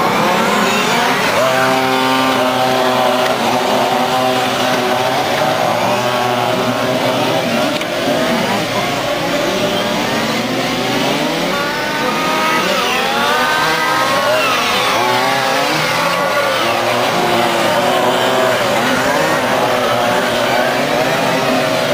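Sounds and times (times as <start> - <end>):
rc race car engines whining: 0.0 - 21.9.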